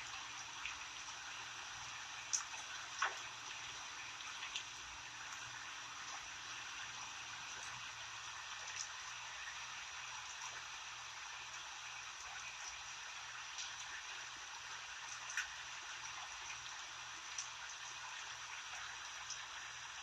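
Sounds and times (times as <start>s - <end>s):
rain drops ticking: 0.0s - 20.0s.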